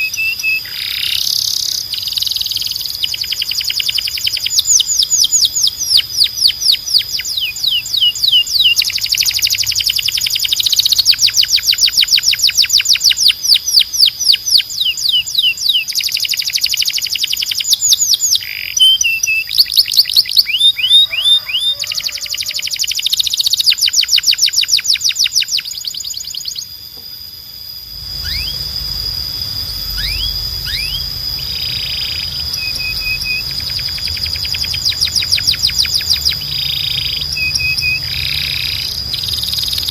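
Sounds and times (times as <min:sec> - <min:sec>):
canary trilling: 0:00.0 - 0:26.7, 0:28.0 - 0:29.0, 0:29.6 - 0:39.9
steady high whistling tone: 0:00.0 - 0:39.9.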